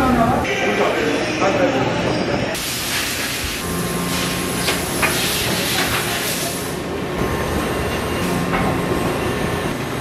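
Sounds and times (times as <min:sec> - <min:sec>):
factory machinery hiss and hum: 0:00.4 - 0:10.0.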